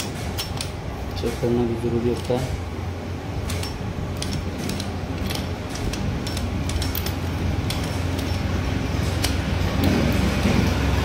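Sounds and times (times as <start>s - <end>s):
metallic gearbox clicks: 0.0s - 2.6s, 3.4s - 10.2s.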